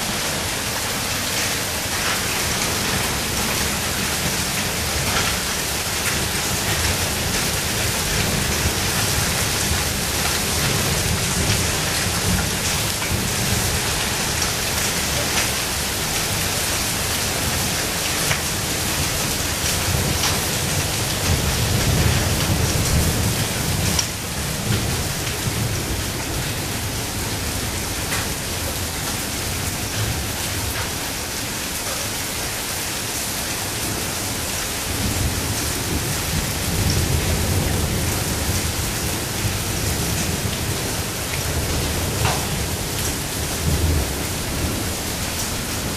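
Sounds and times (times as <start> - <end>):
heavy rain and hail on tiles: 0.0 - 45.9.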